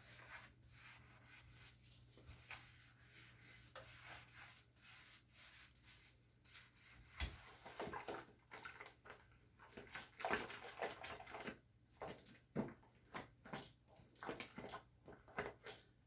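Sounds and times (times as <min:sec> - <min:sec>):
wet scrubbing and wiping: 0:00.0 - 0:15.7.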